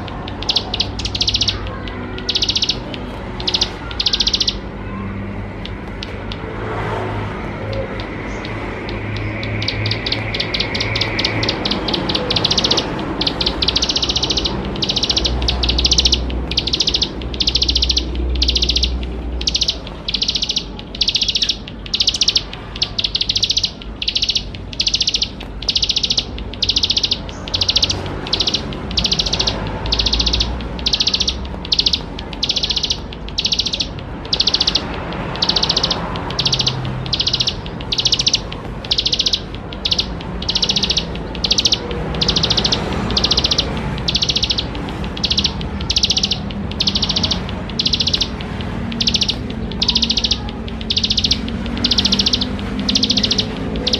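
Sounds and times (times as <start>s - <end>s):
prinia singing buzzy trills: 0.0s - 53.9s.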